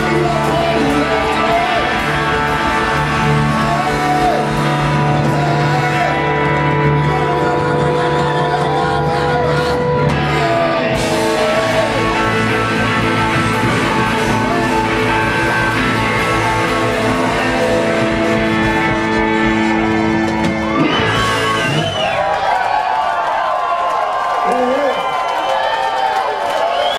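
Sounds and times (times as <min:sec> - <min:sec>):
rock band playing live: 0:00.0 - 0:22.8
crowd shouting and cheering: 0:00.0 - 0:26.9.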